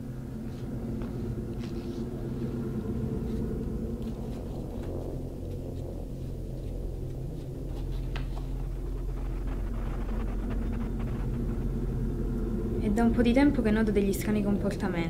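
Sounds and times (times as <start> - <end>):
low rumbling hum: 0.0 - 15.0.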